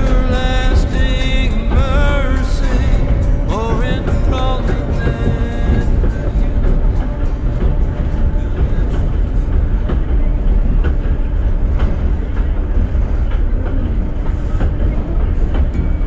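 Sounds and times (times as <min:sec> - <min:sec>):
railcar wheels rumbling on rail: 0:00.0 - 0:16.0
track clicks: 0:00.0 - 0:16.0.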